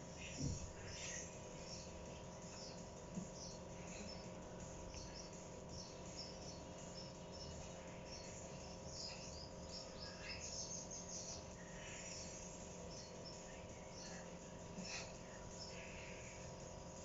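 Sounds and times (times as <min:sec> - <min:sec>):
steady low hum: 0:00.0 - 0:17.0
high-pitched chirping: 0:00.4 - 0:14.4.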